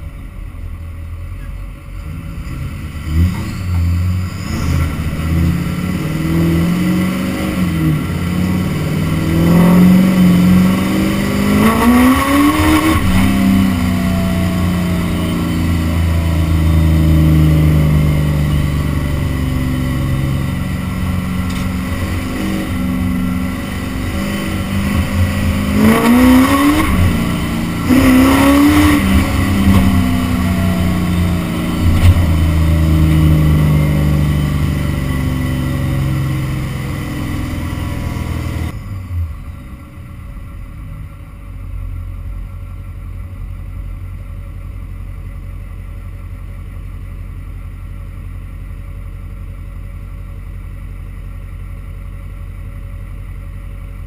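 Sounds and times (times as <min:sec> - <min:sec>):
diesel truck engine accelerating: 0:00.0 - 0:54.0.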